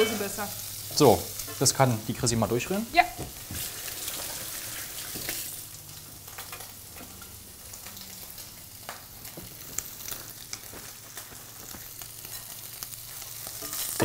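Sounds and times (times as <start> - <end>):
bacon sizzling in a pot: 0.0 - 14.0.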